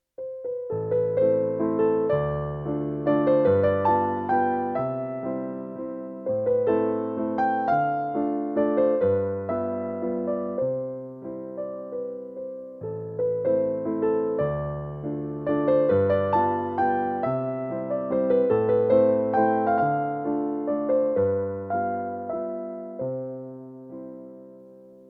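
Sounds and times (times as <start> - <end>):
piano melody: 0.2 - 25.0.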